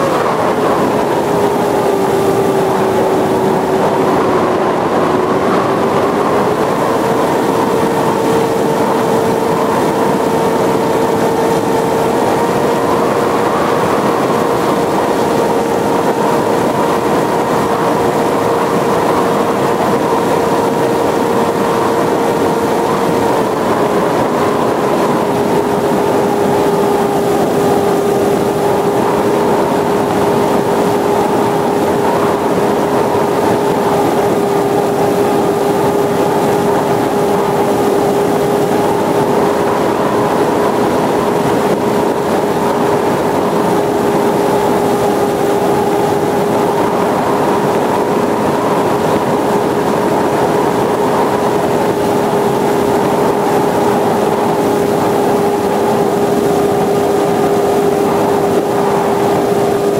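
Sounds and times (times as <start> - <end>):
electric motor and propeller whine: 0.0 - 59.9
rush of airflow: 0.0 - 59.9.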